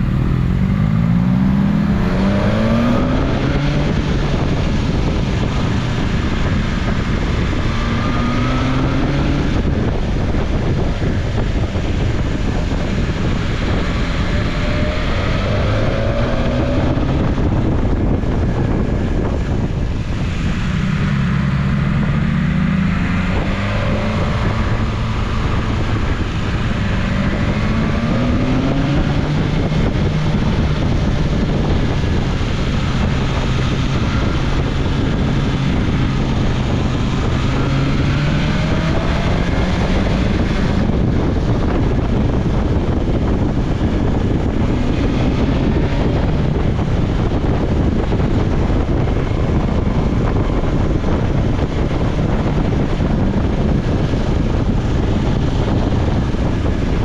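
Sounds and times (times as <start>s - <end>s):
motorcycle engine revving: 0.0s - 57.0s
wind noise on microphone: 0.0s - 57.0s.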